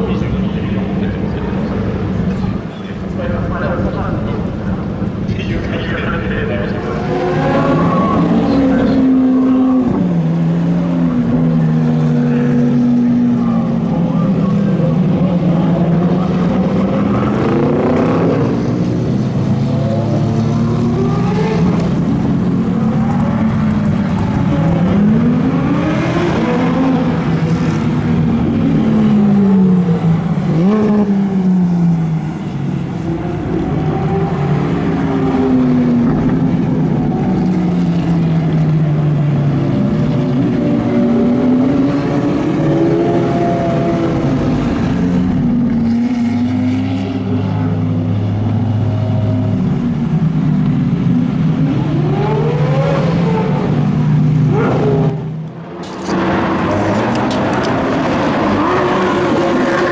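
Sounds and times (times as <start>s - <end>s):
sports cars revving past: 0.0s - 59.9s.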